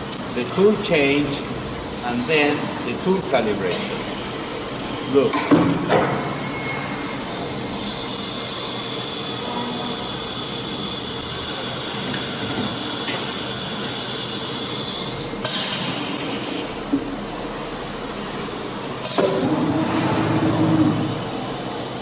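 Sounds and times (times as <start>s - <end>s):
cnc router whining: 0.0s - 22.0s.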